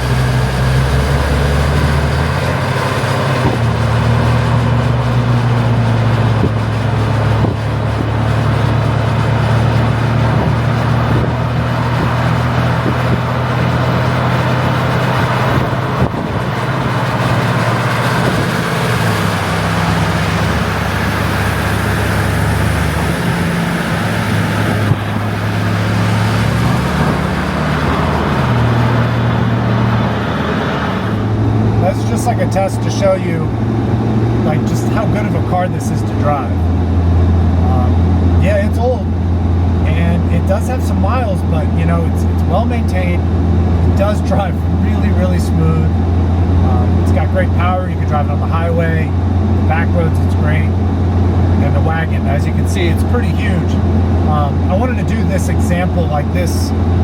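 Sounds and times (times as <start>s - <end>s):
diesel engine drone: 0.0s - 57.0s
road noise: 0.0s - 57.0s.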